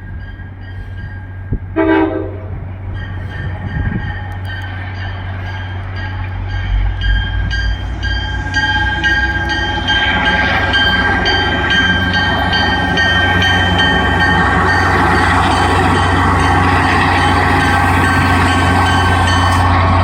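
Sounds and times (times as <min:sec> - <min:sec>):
diesel locomotive running: 0:00.0 - 0:20.0
train bell ringing: 0:00.0 - 0:20.0.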